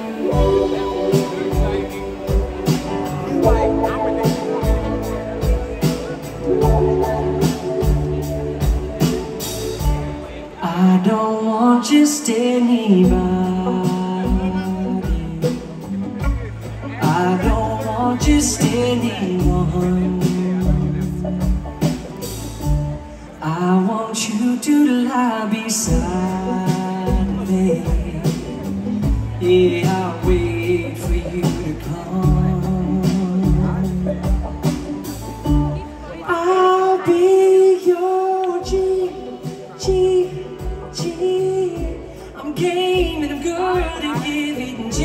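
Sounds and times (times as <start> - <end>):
man singing lead vocal: 0.0 - 21.9, 23.3 - 45.0
live pop band playing: 0.0 - 45.0.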